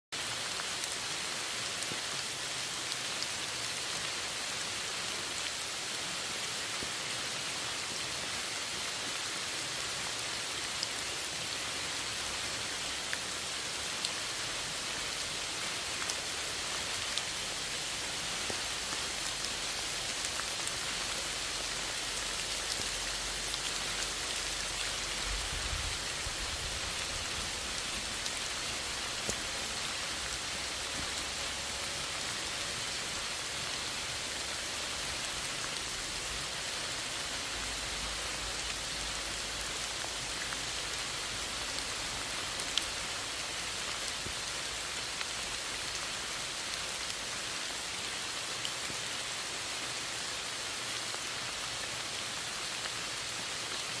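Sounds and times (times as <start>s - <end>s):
steady rain hiss: 0.2s - 54.0s.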